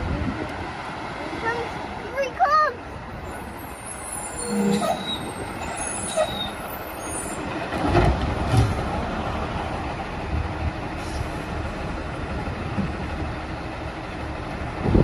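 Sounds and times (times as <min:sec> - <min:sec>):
garbage truck diesel engine: 0:00.0 - 0:15.0.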